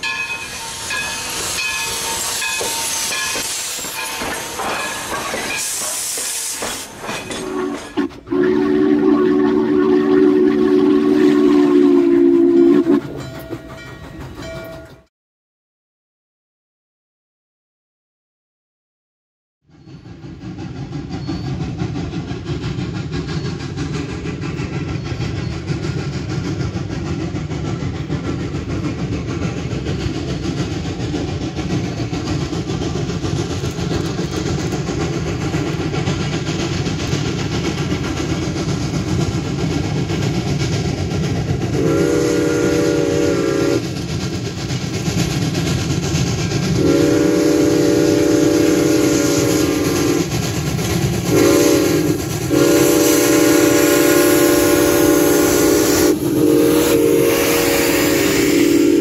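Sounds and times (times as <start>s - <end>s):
train rumbling over rails: 0.0s - 15.1s, 19.6s - 59.0s.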